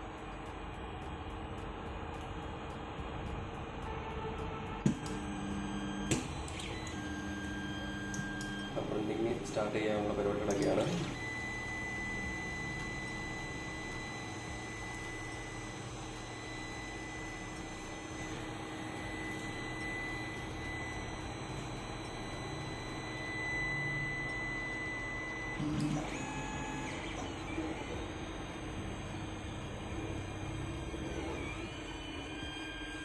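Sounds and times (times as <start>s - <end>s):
stepper motors humming: 0.2s - 33.0s.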